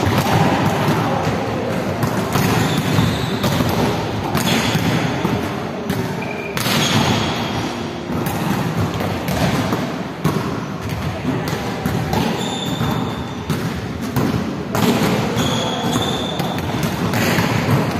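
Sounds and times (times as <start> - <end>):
din of activity in a hall: 0.0 - 17.9
volleyballs struck and bouncing: 0.0 - 17.9.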